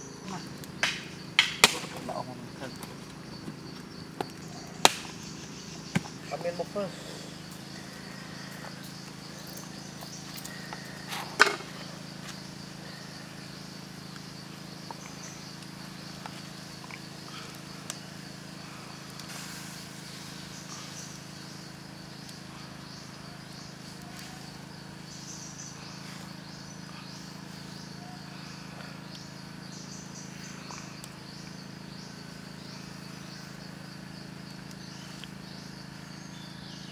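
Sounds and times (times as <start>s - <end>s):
insects chirring: 0.0s - 36.9s
steady low hum: 0.0s - 36.9s.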